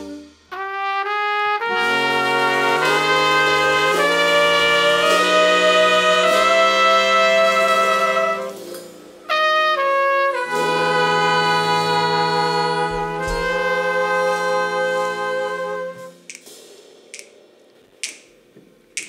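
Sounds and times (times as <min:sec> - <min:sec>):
jazz horn section chords: 0:00.0 - 0:16.9.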